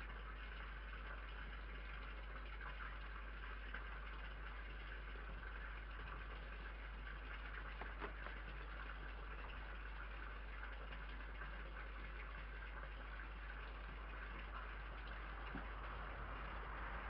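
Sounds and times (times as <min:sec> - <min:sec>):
low electrical hum and hiss: 0:00.0 - 0:17.0.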